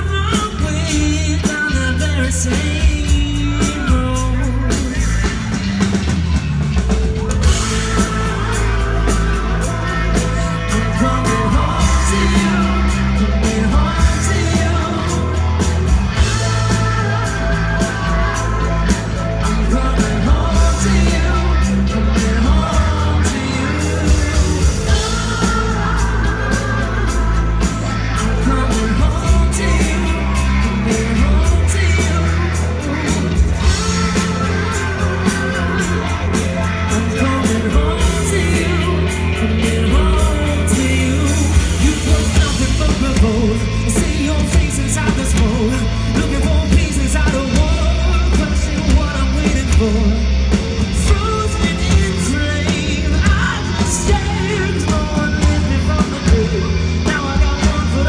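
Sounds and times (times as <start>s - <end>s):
audience yelling and singing along: 0.0s - 58.0s
lead vocals: 0.0s - 58.0s
live rock band playing: 0.0s - 58.0s.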